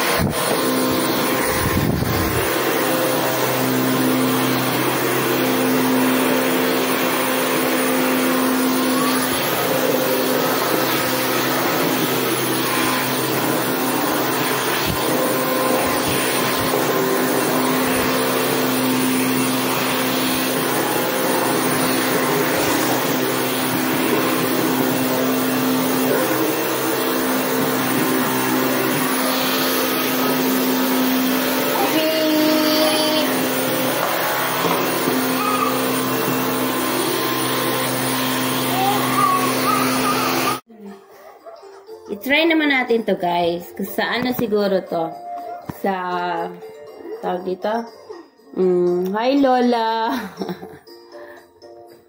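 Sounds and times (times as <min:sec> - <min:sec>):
stick vacuum cleaner running: 0:00.0 - 0:40.7, 0:49.0 - 0:51.5.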